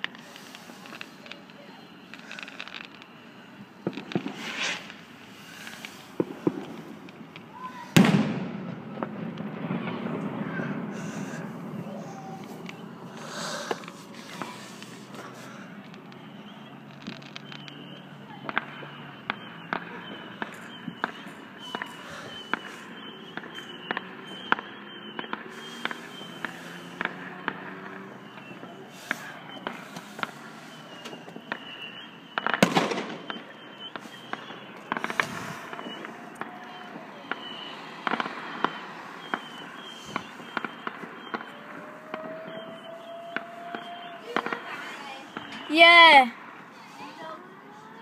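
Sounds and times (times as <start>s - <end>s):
distant fireworks bangs: 0.0s - 46.7s.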